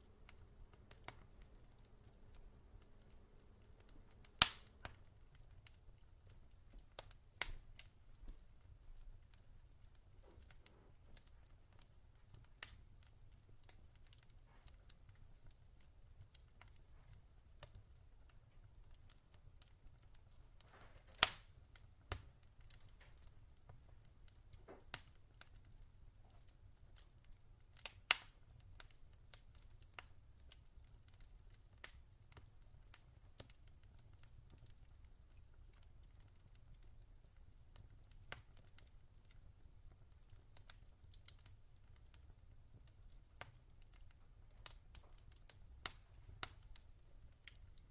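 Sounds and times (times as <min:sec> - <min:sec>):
log fire crackling: 0:00.0 - 0:47.9.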